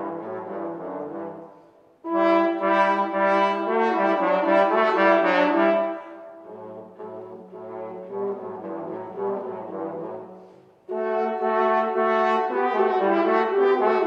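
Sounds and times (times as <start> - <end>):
trombone and french horn duet: 0.0 - 14.0.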